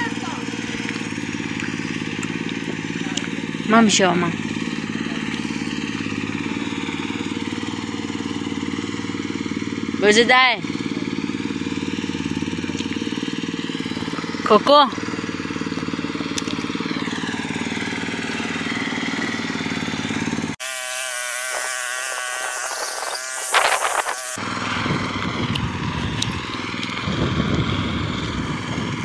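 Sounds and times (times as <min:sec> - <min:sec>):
tractor engine running: 0:00.0 - 0:20.8, 0:21.4 - 0:29.0.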